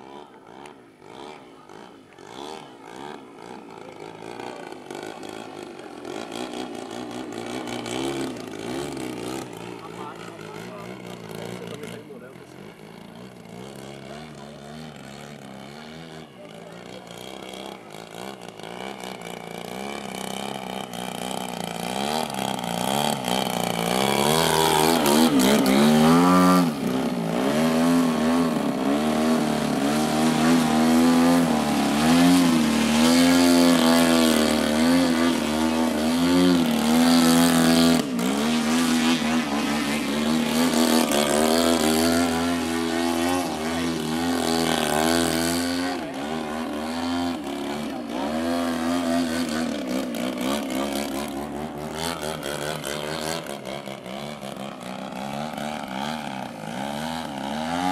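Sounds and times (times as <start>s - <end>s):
model plane engine in flight: 0.0s - 57.9s.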